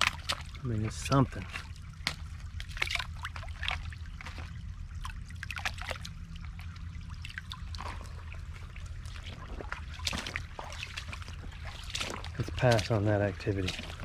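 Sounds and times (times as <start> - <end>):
creek water trickling: 0.0 - 14.0
small water splashes: 0.0 - 14.0.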